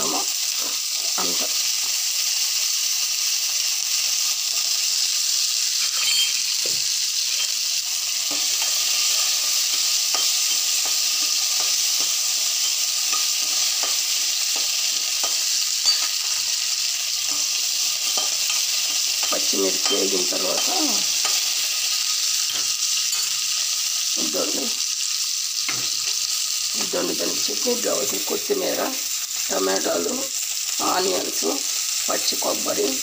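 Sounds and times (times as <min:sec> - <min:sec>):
spices sizzling in a pan: 0:00.0 - 0:33.0.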